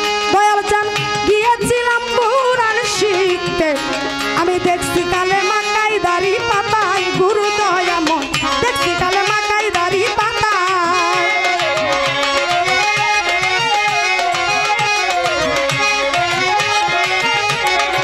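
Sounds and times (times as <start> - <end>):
hand drum rhythm: 0.0 - 18.0
bowed violin melody: 1.3 - 18.0.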